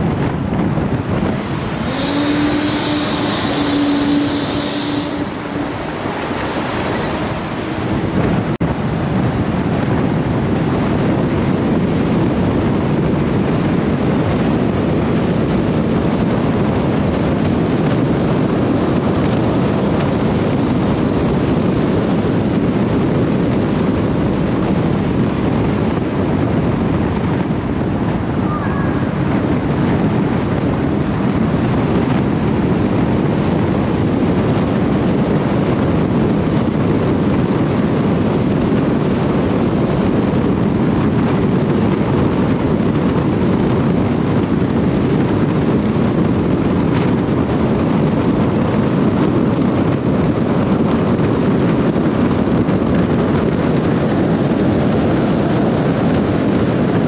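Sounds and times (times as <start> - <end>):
car road and wind noise: 0.0 - 57.0
wind rumbling on microphone: 0.0 - 57.0.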